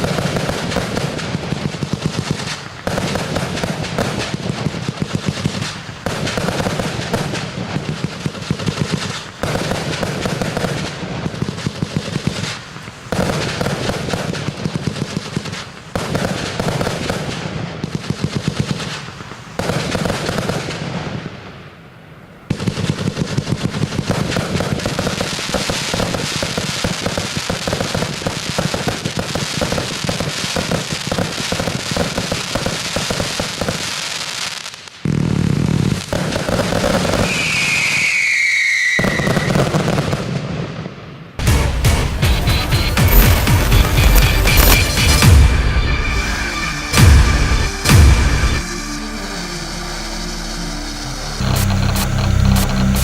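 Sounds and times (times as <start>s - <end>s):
firework volleys and crackle: 0.0s - 53.0s.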